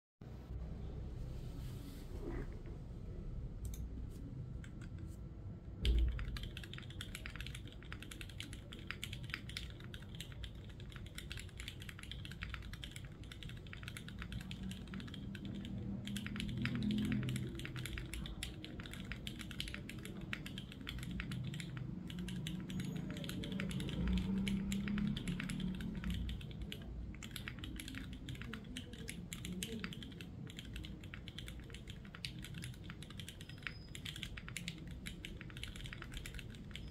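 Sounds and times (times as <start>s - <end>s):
mechanical keyboard key clacks: 5.8s - 36.9s.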